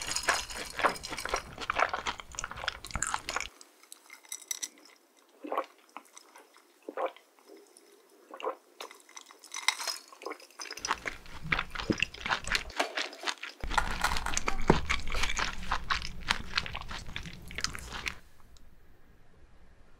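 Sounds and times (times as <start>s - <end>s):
person chewing crunchy food: 0.0s - 18.6s.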